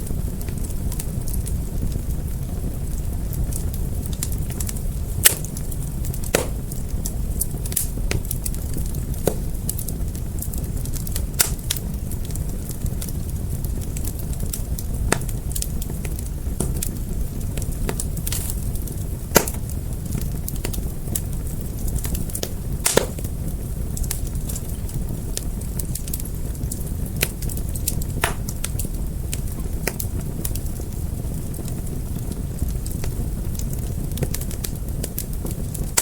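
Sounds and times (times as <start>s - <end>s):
fire crackling: 0.0s - 36.0s.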